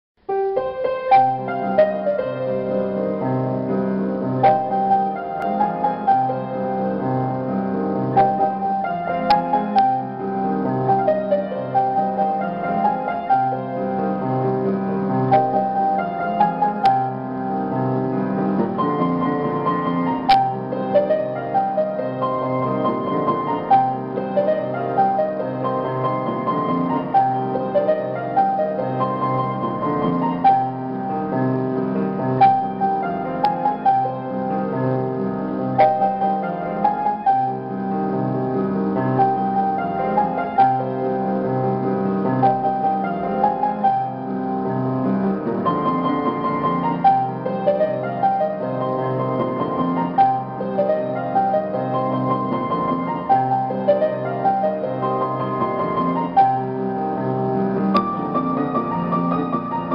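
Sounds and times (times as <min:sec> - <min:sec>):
piano music with pulsing bass: 0:00.2 - 0:59.9.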